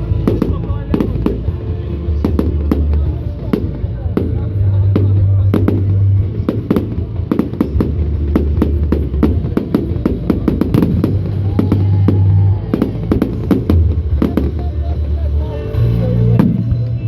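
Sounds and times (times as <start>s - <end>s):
fireworks bangs: 0.0s - 14.8s
loud music with deep bass: 0.0s - 17.0s.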